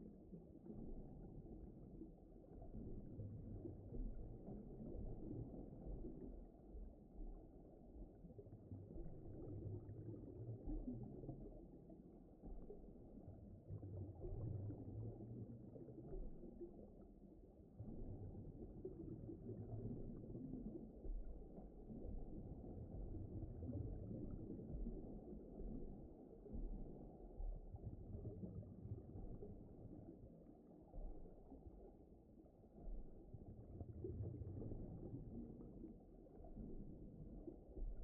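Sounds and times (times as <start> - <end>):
low muffled underwater rumbling: 0.0 - 38.0.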